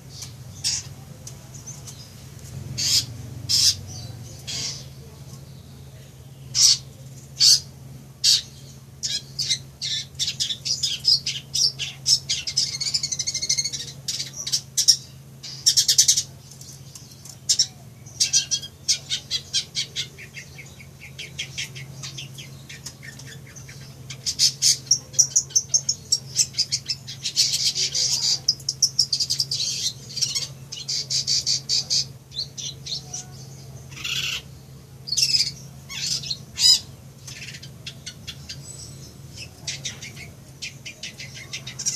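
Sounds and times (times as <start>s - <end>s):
bird singing chattering trills: 0.0s - 41.9s
steady low hum: 0.0s - 41.9s.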